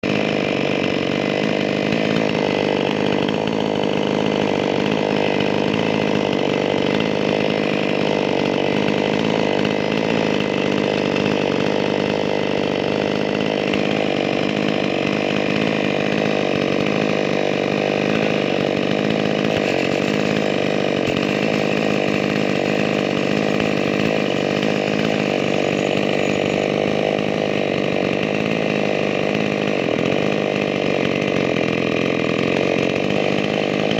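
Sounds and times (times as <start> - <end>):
chainsaw engine running: 0.0 - 33.9.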